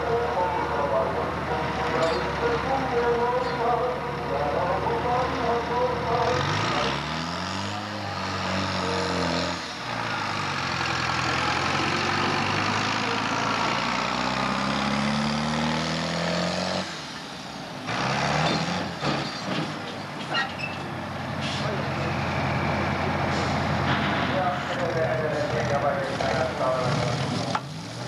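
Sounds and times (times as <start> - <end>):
diesel tractor engine at full load: 0.0 - 28.0.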